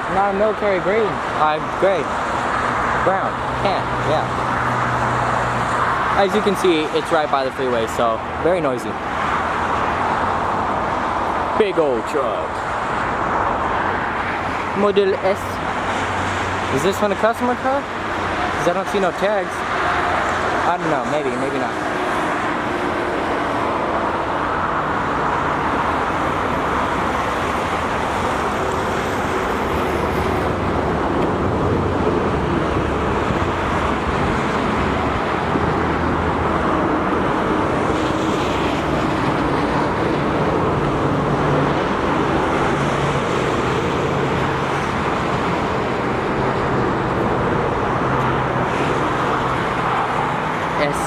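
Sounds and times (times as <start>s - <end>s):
freeway traffic roar: 0.0s - 51.0s.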